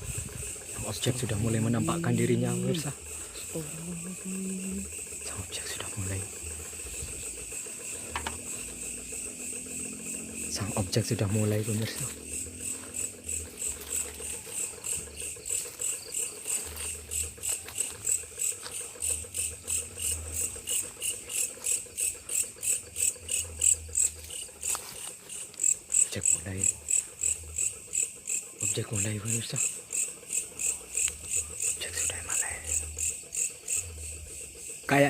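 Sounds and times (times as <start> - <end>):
night insects chirping: 0.0 - 35.0.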